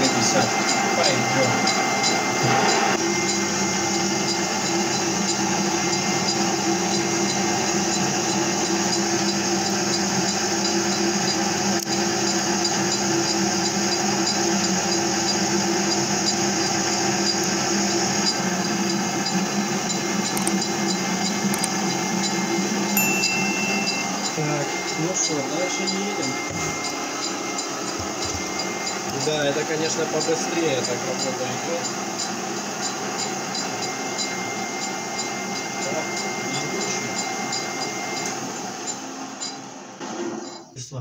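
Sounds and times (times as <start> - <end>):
lathe motor whine: 0.0 - 40.6.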